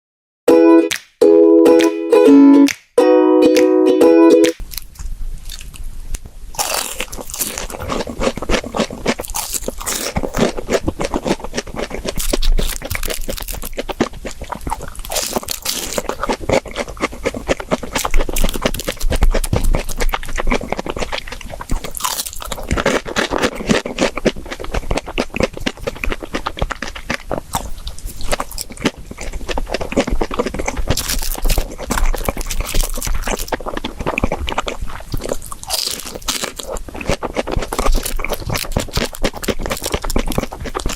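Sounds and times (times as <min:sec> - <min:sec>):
crunching and chewing fried food: 0:04.6 - 0:40.9.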